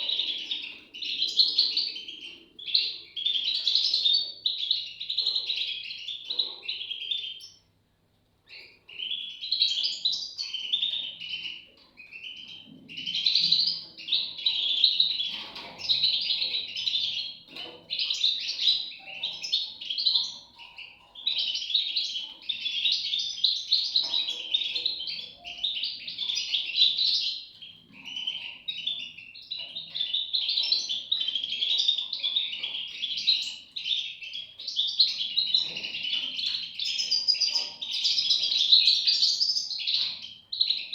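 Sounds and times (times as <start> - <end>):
bird chicks chirping: 0.0 - 40.9.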